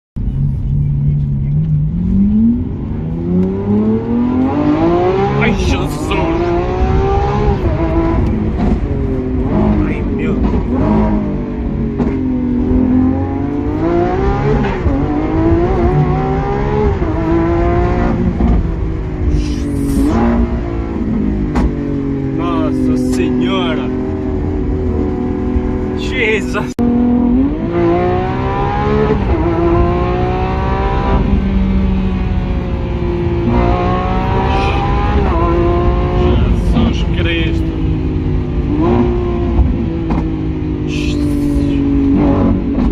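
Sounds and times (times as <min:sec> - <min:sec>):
sports car engine accelerating: 0:00.2 - 0:42.9.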